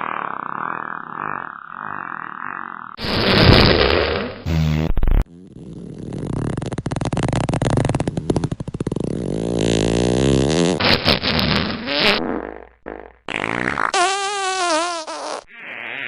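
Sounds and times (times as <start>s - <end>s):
fart sounds: 0.0s - 16.0s.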